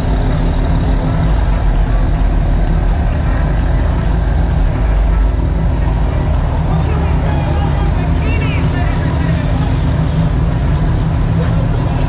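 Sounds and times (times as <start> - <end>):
pickup truck engines running: 0.0 - 12.0
truck pulling away: 0.0 - 12.0.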